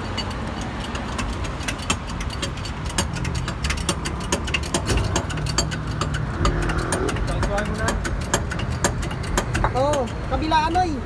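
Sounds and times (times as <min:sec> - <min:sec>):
road traffic rumble: 0:00.0 - 0:11.0
small sharp clicks and knocks: 0:00.0 - 0:11.0.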